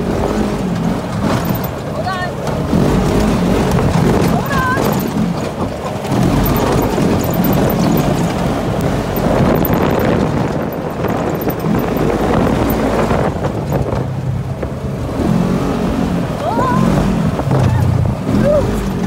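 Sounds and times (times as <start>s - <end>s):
road noise: 0.0s - 19.0s
utv engine running: 0.0s - 19.0s
wind noise: 2.6s - 19.0s.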